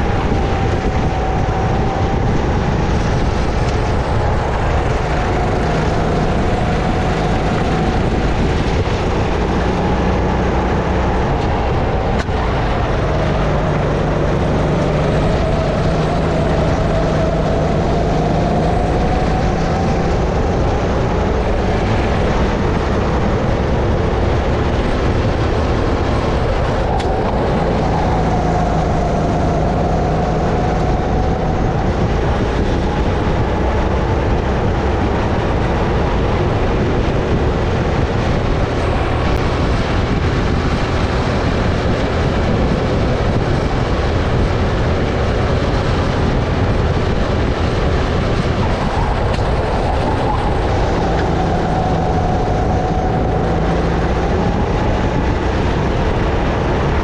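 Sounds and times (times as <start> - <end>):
dense rushing noise: 0.0 - 57.0
kart engine running: 0.0 - 57.0.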